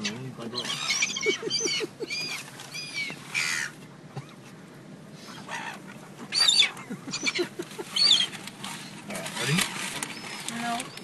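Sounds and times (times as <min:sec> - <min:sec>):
seagulls calling: 0:00.0 - 0:04.6, 0:05.2 - 0:11.0.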